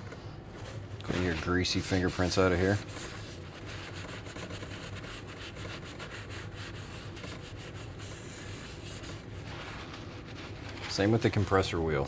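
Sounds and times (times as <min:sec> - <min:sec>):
hand wiping rasping strokes: 0:01.2 - 0:11.6.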